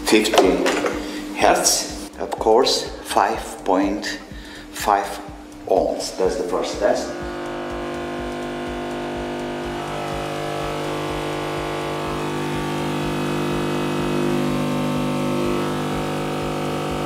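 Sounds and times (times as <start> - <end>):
low sine test tone: 0.0 - 17.0.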